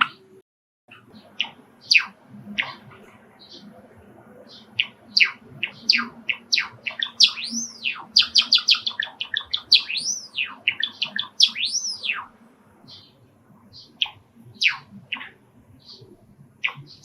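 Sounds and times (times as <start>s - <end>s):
sparrow chipping notes: 0.9s - 3.8s, 4.4s - 13.2s, 13.8s - 17.0s.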